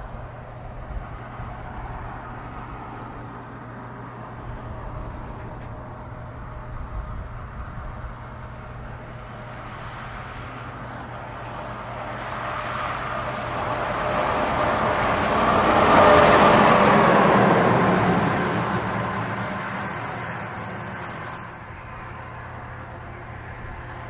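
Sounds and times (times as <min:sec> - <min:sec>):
heavy truck passing: 0:00.0 - 0:24.0.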